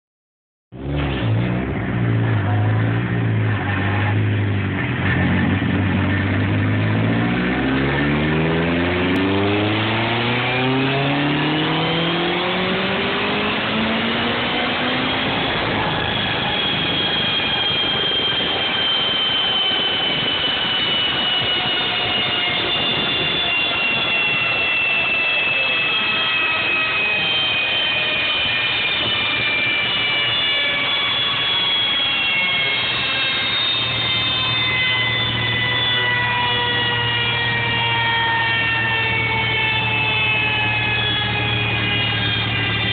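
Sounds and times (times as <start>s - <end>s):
car engine and wheels whining: 0.8s - 42.9s.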